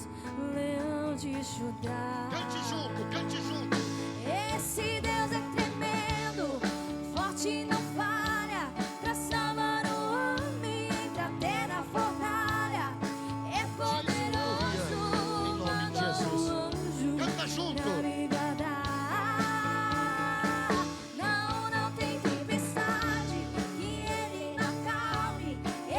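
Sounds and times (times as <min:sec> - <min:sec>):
song with singing voice: 0:00.0 - 0:25.9.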